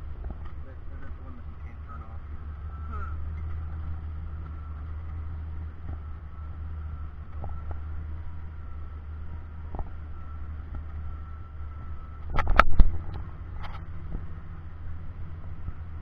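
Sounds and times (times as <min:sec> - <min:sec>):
car engine and road noise: 0:00.0 - 0:16.0
faint high whine: 0:00.0 - 0:16.0.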